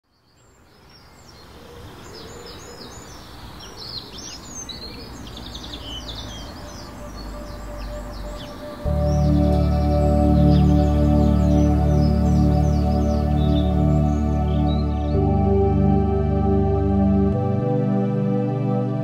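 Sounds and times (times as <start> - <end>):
small birds chirping: 0.0 - 15.8
rural background noise: 0.0 - 19.0.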